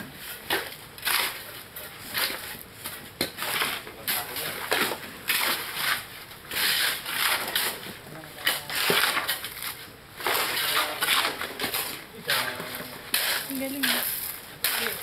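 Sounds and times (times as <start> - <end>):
shovels scraping concrete on gravel: 0.0 - 15.0.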